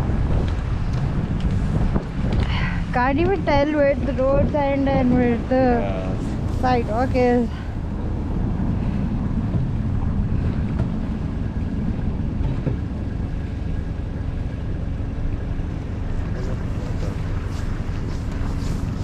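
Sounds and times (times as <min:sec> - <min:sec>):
faint city traffic: 0:00.0 - 0:19.0
wind buffeting microphone: 0:00.0 - 0:19.0.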